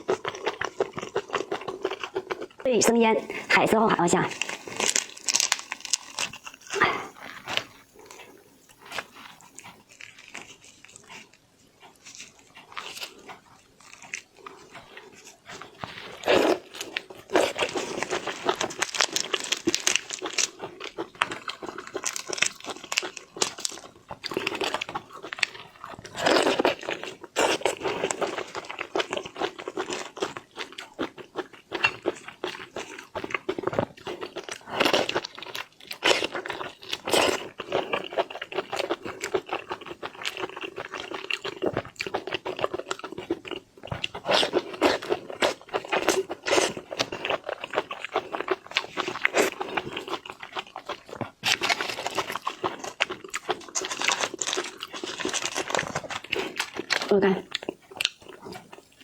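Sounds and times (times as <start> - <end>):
wet crunching and chewing: 0.0 - 59.0.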